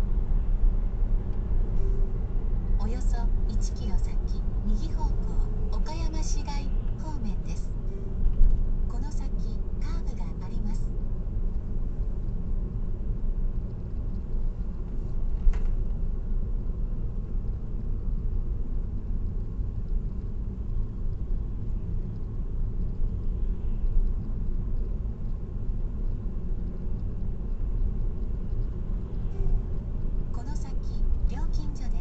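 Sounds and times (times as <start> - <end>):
car road noise rumble: 0.0 - 32.0.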